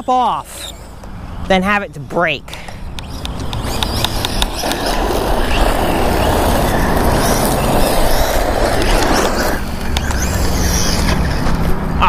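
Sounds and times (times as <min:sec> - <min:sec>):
wind buffeting microphone: 0:00.5 - 0:12.0.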